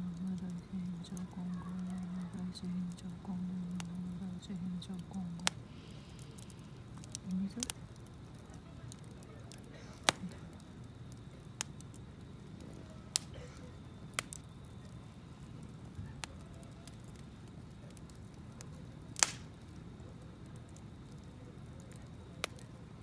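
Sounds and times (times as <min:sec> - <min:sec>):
burning wood pops and crackles: 0:00.0 - 0:23.0
campfire flames rustling: 0:00.0 - 0:23.0.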